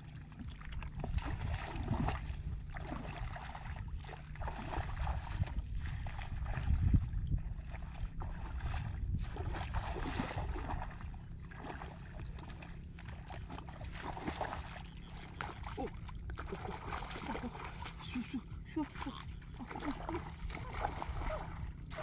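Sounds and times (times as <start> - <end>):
feet sloshing through water: 0.0 - 22.0
low rumble: 0.0 - 22.0.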